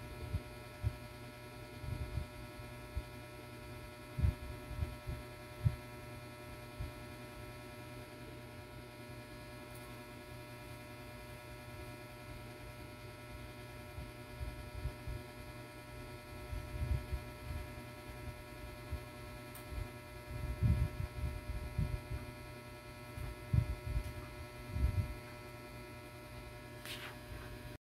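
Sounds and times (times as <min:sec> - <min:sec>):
electrical hum: 0:00.0 - 0:27.8.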